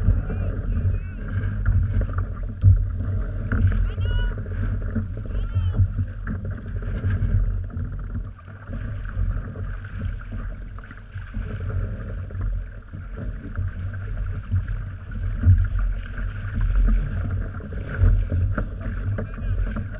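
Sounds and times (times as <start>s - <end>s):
water washing around boat: 0.0s - 19.9s
wind rumbling over microphone: 0.0s - 19.9s.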